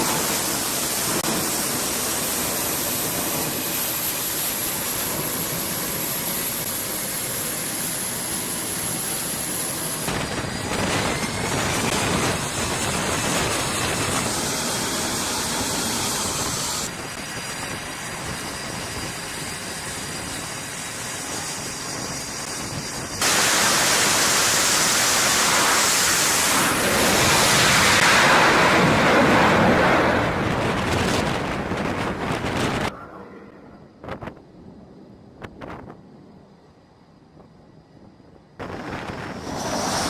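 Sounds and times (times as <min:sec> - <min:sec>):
jet aircraft rushing noise: 0:00.0 - 0:40.0.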